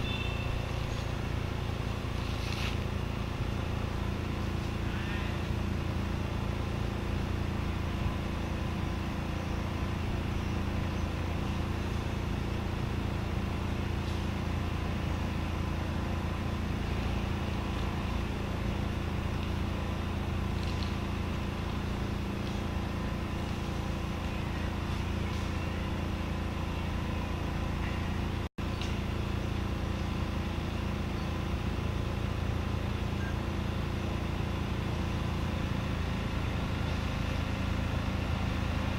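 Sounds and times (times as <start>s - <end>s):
mechanical engine drone: 0.0s - 38.9s.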